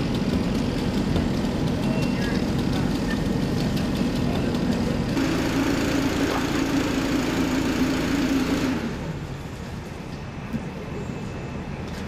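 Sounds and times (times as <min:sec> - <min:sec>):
small petrol engine running: 0:00.0 - 0:09.7.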